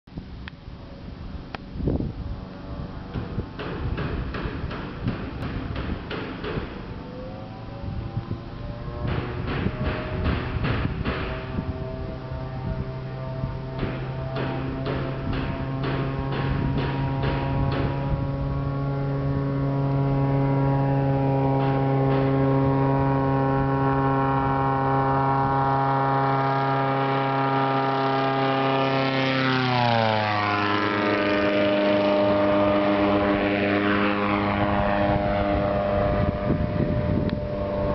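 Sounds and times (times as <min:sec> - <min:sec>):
light aircraft engine and propeller: 0:00.1 - 0:37.9.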